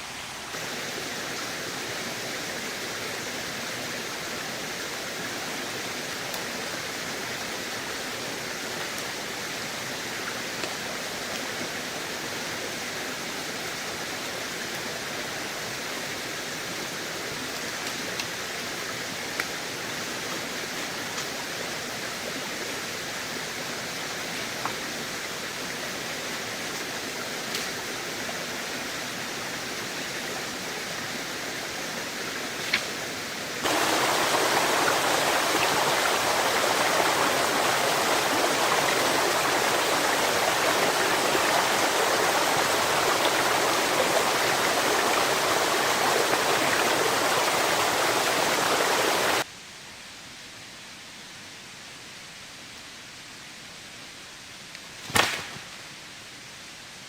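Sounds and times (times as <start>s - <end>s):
heavy rain: 0.0s - 49.5s.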